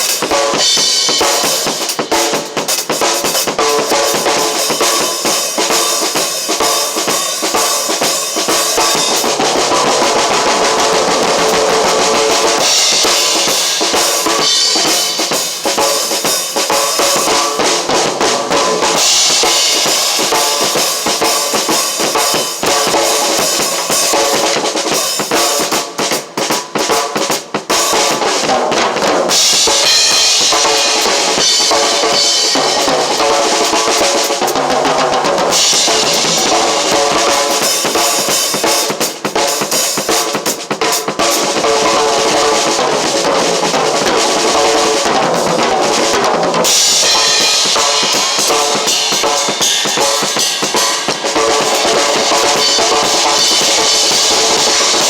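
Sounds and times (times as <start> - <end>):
drum kit playing fast: 0.0 - 55.0.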